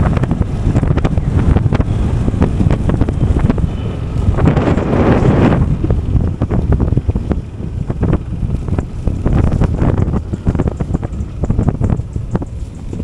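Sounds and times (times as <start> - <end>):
scooter engine low rumble: 0.0 - 13.0
wind buffeting microphone: 0.0 - 13.0.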